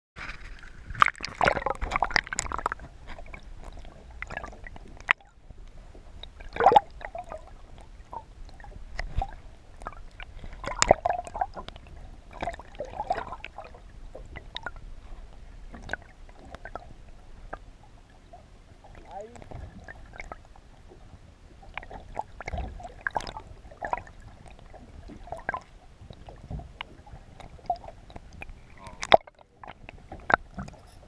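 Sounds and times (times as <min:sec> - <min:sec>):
water sloshing and gurgling: 0:00.2 - 0:31.0
water splashing: 0:00.2 - 0:31.0.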